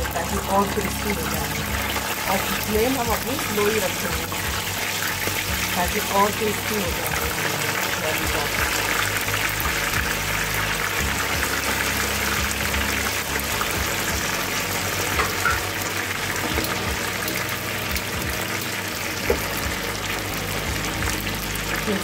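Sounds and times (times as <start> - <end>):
hot oil sizzling and bubbling: 0.0 - 22.0.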